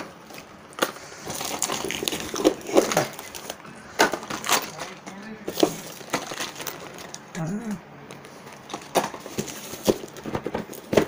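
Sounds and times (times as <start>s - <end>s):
plastic packaging crackling: 0.0s - 7.3s, 8.1s - 11.0s.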